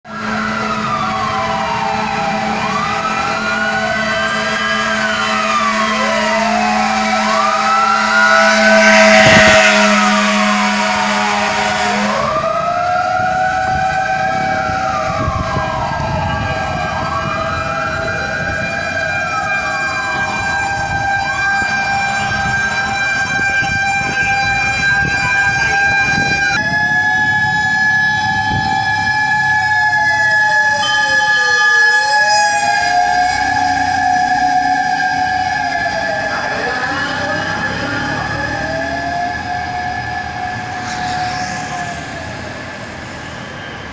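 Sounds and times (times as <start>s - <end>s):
street noise: 0.0s - 43.9s
sirens wailing: 0.1s - 43.9s.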